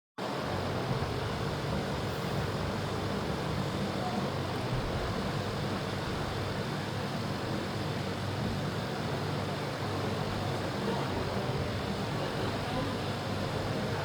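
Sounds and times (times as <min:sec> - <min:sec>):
steady background noise: 0:00.2 - 0:14.0.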